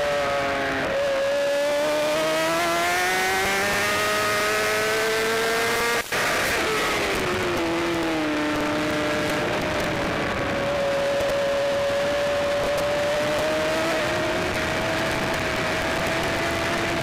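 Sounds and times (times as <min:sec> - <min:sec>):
motorcycle engine revving: 0:00.0 - 0:17.0
wind rush: 0:01.9 - 0:17.0.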